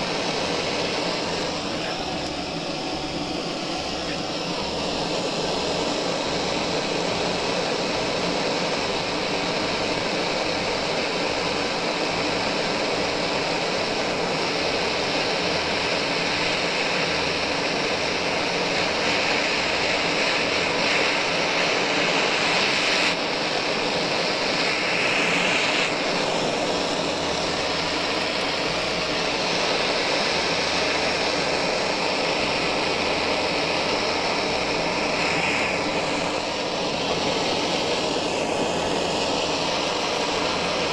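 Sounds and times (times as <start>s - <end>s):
blowtorch hissing: 0.0s - 40.9s.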